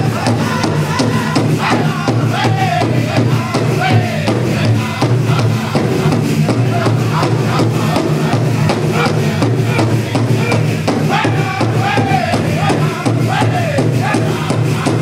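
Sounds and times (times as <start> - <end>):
fast steady drum beat: 0.0 - 15.0
high voices singing: 0.0 - 15.0.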